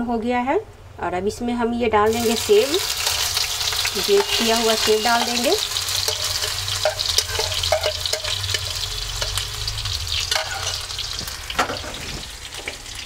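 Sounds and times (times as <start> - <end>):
apple sizzling in a frying pan: 2.1 - 13.0.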